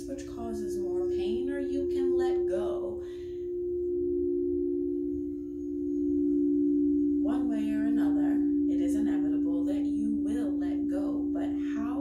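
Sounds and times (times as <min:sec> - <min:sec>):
singing bowls ringing: 0:00.0 - 0:12.0.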